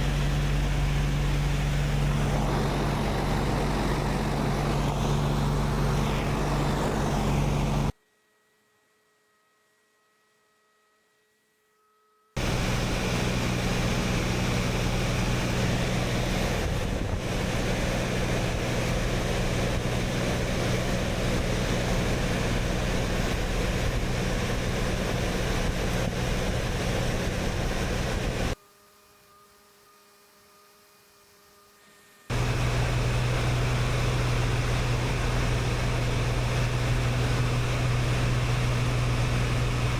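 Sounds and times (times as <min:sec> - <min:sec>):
plane engine and propeller drone: 0:00.0 - 0:08.0, 0:12.4 - 0:29.4, 0:31.5 - 0:39.9
faint hum: 0:00.0 - 0:39.9.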